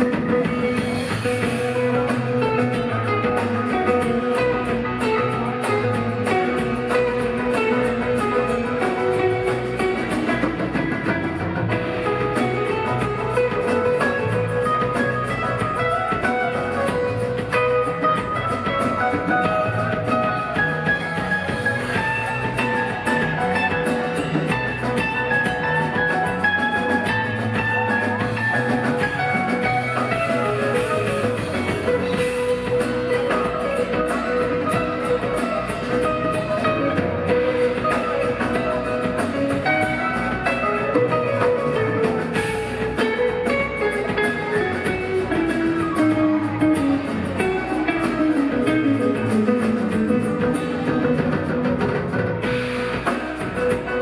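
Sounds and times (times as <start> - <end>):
lead electric guitar: 0.0 - 54.0
live rock band playing: 0.0 - 54.0.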